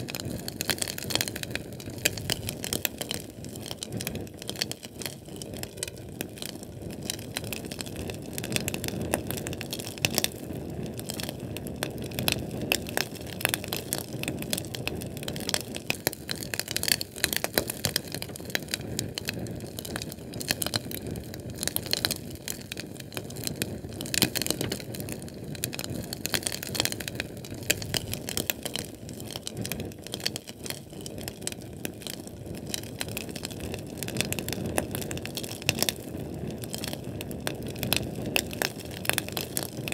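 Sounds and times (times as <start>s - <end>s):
canned fuel flame crackling: 0.0s - 39.9s
low rumble of burning: 0.0s - 39.9s.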